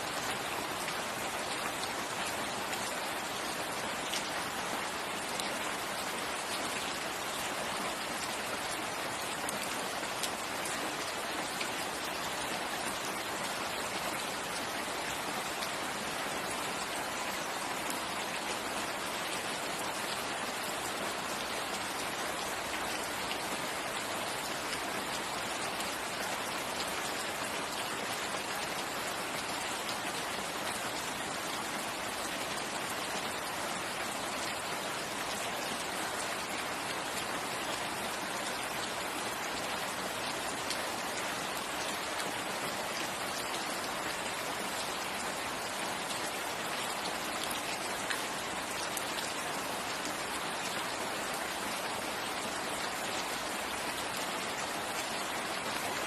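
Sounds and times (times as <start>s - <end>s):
rain hitting leaves: 0.0s - 56.0s.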